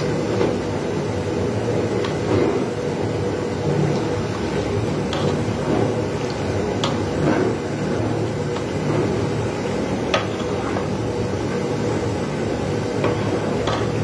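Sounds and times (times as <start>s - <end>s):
pot of rice boiling: 0.0s - 14.0s.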